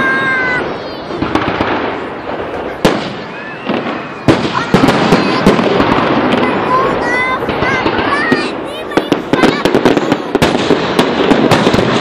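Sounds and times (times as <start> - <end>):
firework shells bursting: 0.0 - 12.0
noisy fireworks din: 0.0 - 12.0.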